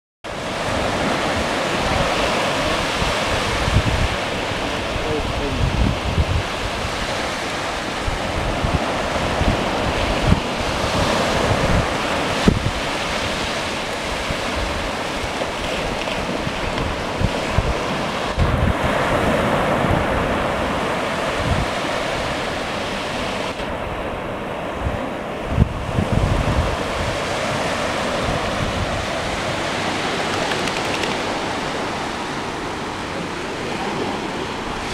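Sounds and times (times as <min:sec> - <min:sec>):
sea surf breaking: 0:00.3 - 0:34.9
wind rumbling on microphone: 0:00.3 - 0:34.9.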